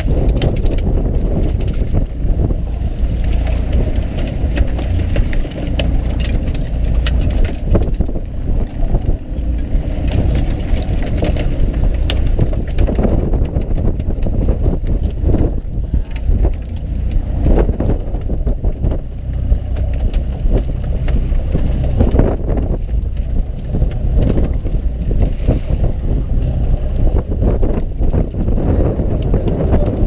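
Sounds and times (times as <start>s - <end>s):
boat engine rumble: 0.0s - 30.0s
wind on microphone: 0.0s - 30.0s.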